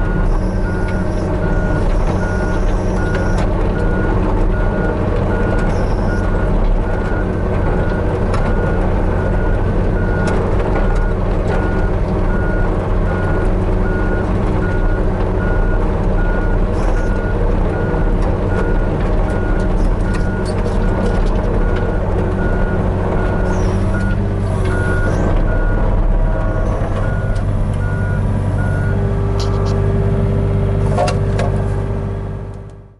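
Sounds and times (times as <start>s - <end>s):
reversing alarm beeping: 0.0s - 29.8s
excavator diesel engine running: 0.0s - 32.9s.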